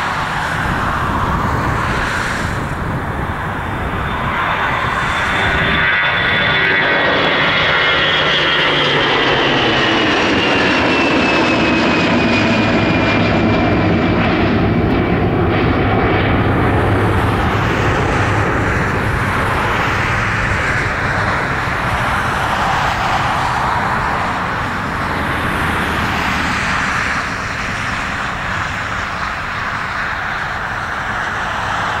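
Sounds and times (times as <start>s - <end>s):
jet engine roar: 0.0s - 32.0s
jet engine whine: 0.0s - 32.0s.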